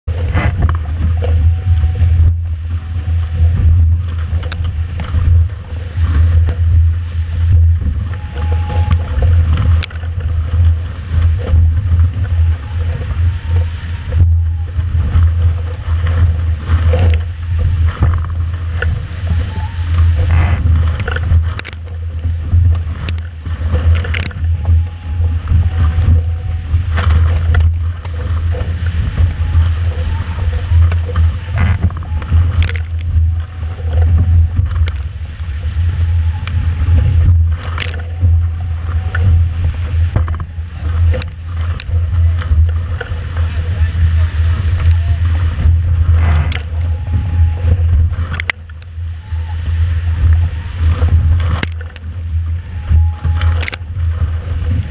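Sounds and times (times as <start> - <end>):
spray slapping boat: 0.0 - 54.9
water rushing along hulls: 0.0 - 54.9
wind buffeting microphone: 0.0 - 54.9.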